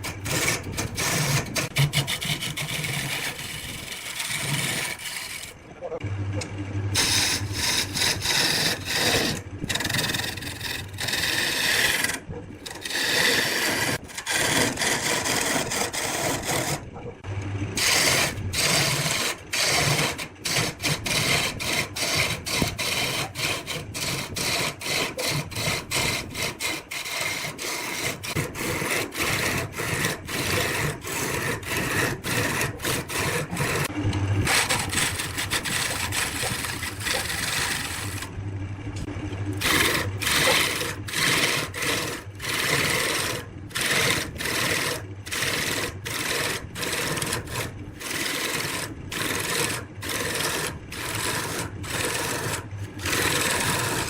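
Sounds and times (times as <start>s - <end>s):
turning tool scraping wood on lathe: 0.0s - 6.0s, 7.0s - 16.9s, 17.8s - 38.4s, 39.5s - 54.0s.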